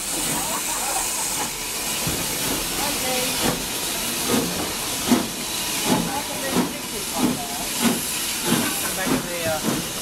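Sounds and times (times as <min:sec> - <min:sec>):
steady steam hiss: 0:00.0 - 0:10.0
steam locomotive exhaust beats: 0:00.0 - 0:10.0.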